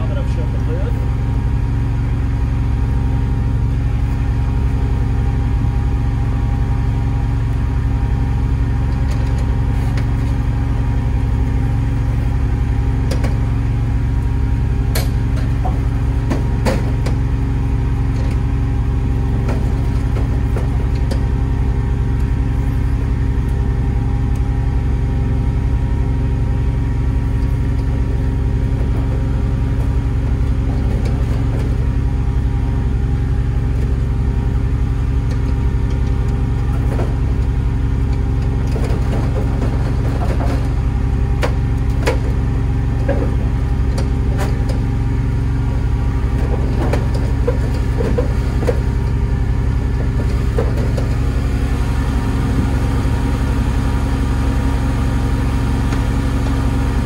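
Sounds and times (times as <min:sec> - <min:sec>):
muffled generator hum: 0:00.0 - 0:57.0.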